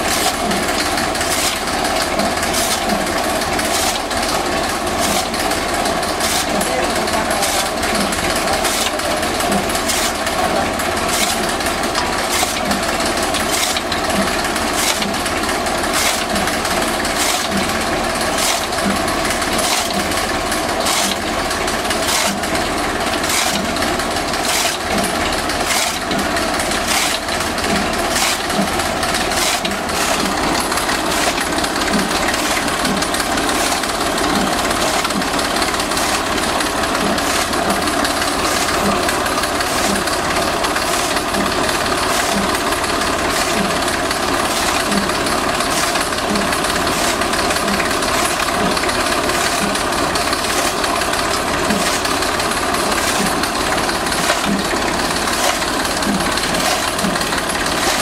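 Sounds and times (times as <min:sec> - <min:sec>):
chaff cutter blades chopping fodder: 0:00.0 - 0:58.0
tractor diesel engine running: 0:00.0 - 0:58.0.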